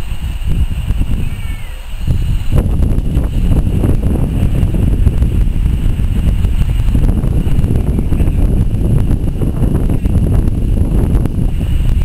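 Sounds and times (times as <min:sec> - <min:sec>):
railway coaches rumbling on track: 0:00.0 - 0:12.0
wind buffeting microphone: 0:00.0 - 0:12.0.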